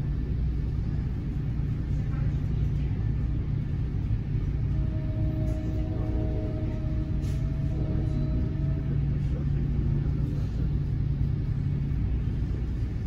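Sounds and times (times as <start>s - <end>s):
faint whine: 0.0s - 13.0s
train rumble from inside: 0.0s - 13.0s.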